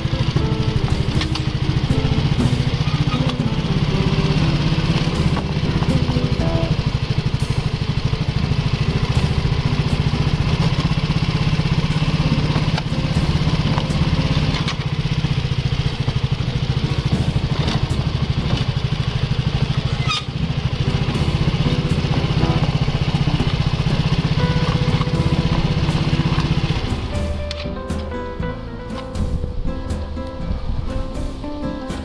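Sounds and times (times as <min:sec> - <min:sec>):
scooter engine idling: 0:00.0 - 0:32.0.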